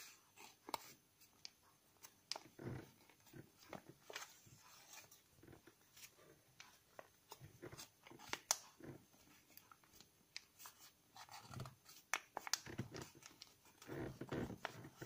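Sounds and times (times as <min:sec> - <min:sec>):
paper crinkling and rustling: 0:02.0 - 0:15.0.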